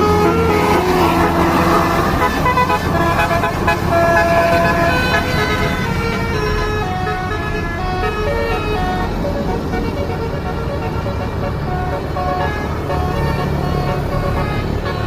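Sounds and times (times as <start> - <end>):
bus engine running: 0.0 - 15.0
bus horn playing a tune: 0.0 - 15.0.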